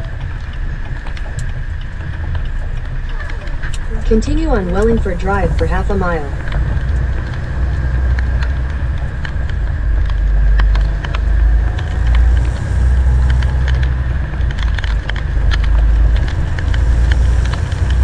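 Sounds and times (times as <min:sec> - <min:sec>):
rain ticking on windshield: 0:00.0 - 0:18.0
truck engine and tyres rumbling: 0:00.0 - 0:18.0.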